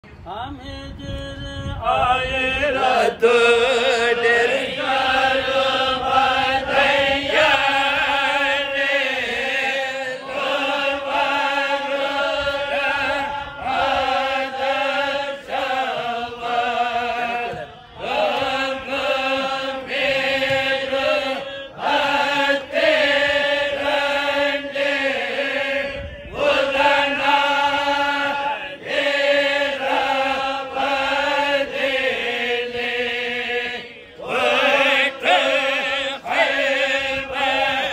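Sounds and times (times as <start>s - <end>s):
person chanting devotional song: 0.0s - 37.9s.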